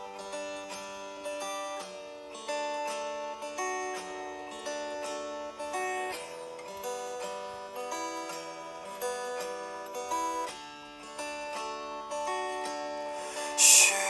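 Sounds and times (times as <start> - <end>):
soft plucked string music: 0.0 - 14.0.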